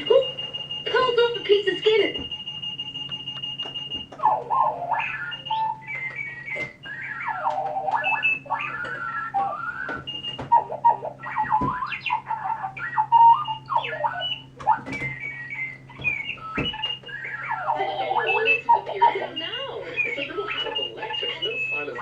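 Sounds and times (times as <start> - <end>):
alarm clock warbling: 0.0 - 22.0
low steady hum: 0.0 - 22.0.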